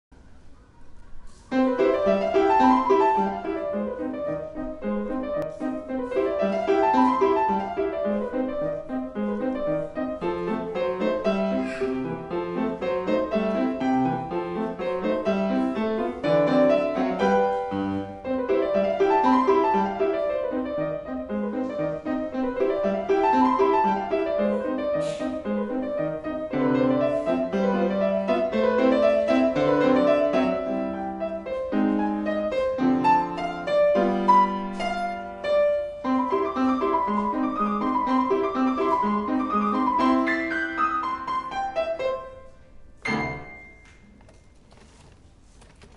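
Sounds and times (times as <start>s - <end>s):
lively piano piece: 0.2s - 45.9s.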